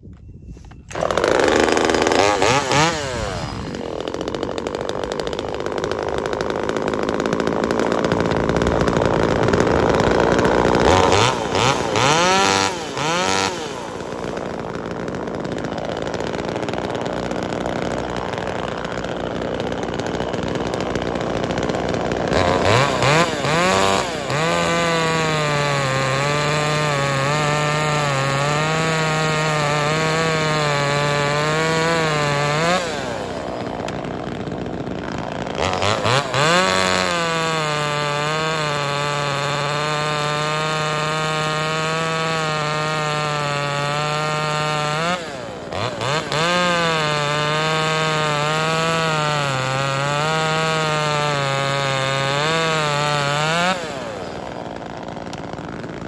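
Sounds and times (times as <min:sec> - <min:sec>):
two-stroke chainsaw revving: 0:00.6 - 0:56.0.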